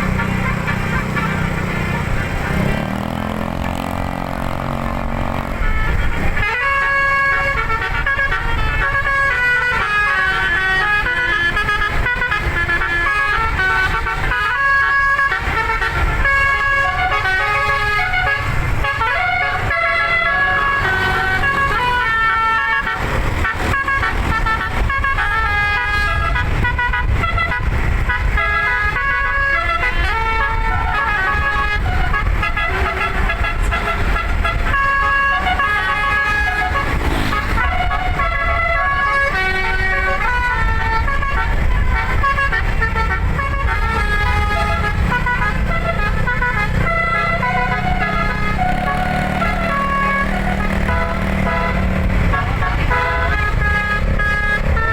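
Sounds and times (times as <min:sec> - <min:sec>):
musical air horns playing a tune: 0:00.0 - 0:54.9.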